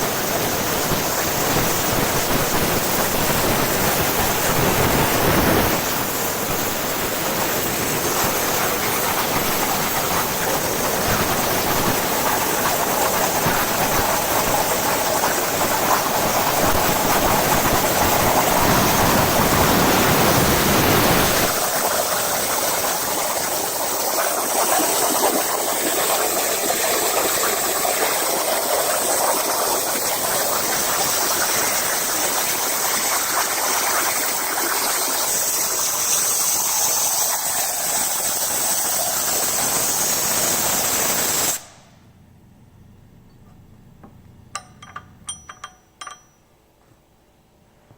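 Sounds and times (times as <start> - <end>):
plasma torch cutting steel: 0.1 - 41.9.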